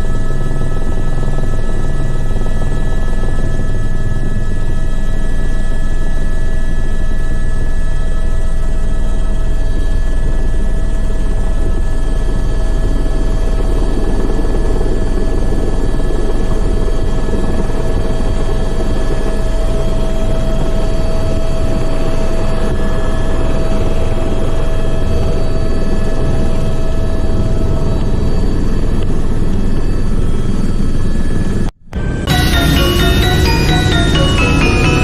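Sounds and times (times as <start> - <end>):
helicopter engine and rotors droning: 0.0 - 35.0.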